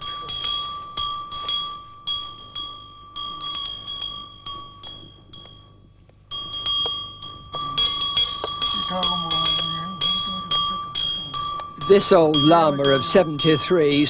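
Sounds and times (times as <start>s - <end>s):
handbell ringing: 0.0s - 14.0s.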